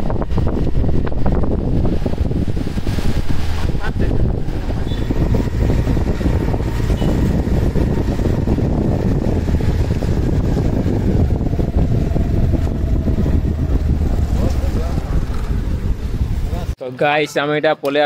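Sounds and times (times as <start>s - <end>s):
motorcycle engine hum: 0.0s - 16.8s
wind buffeting microphone: 0.0s - 16.8s.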